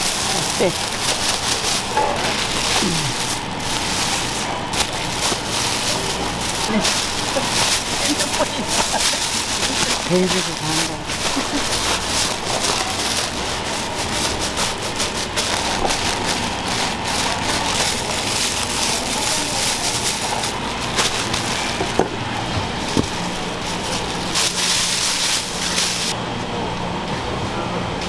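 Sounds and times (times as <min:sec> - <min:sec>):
plastic bag crinkling: 0:00.0 - 0:26.2
steady background hum: 0:00.0 - 0:28.0.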